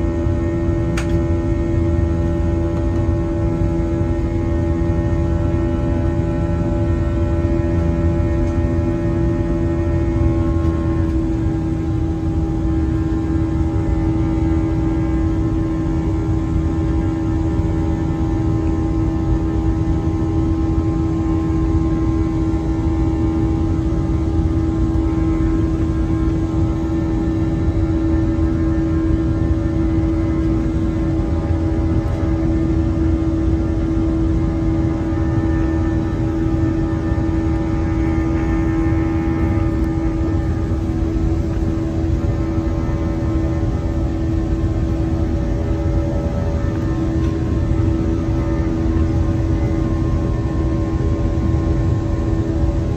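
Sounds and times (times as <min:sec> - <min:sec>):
jet engines droning in cabin: 0:00.0 - 0:52.9.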